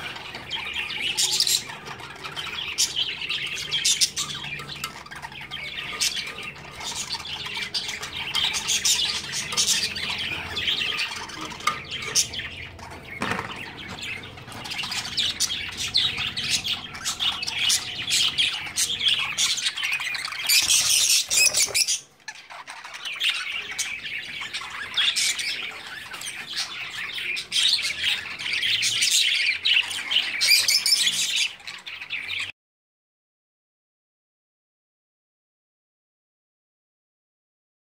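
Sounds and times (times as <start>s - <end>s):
parrots chirping and squawking: 0.0s - 32.5s.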